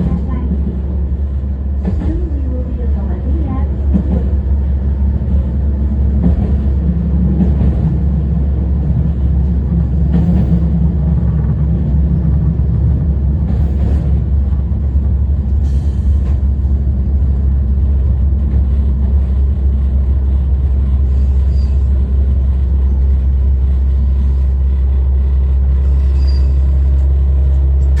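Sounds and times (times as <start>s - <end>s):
diesel railcar running: 0.0s - 28.0s.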